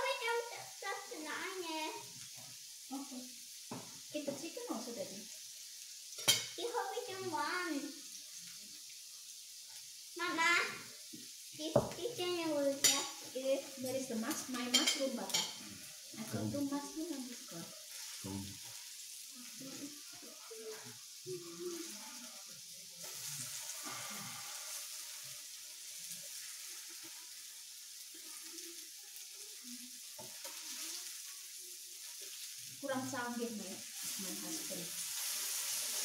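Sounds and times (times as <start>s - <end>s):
meat sizzling on grill plate: 0.0s - 36.0s.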